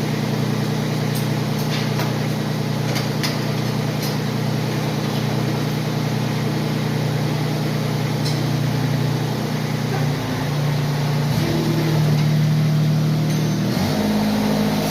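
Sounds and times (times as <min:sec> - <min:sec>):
mower engine running: 0:00.0 - 0:14.9.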